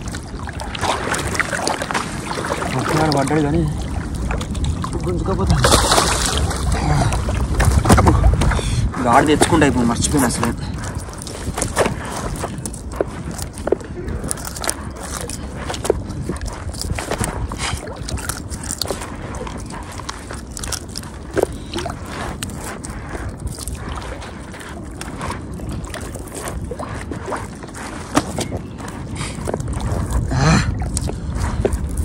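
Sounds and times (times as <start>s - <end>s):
water sloshing and splashing: 0.0s - 32.0s
wind rumble on microphone: 0.0s - 32.0s.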